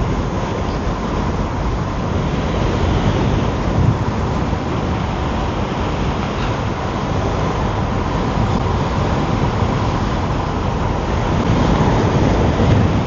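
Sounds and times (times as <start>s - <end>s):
faint steady whine: 0.0s - 13.0s
road noise: 0.0s - 13.0s
wind buffeting microphone: 0.0s - 13.0s.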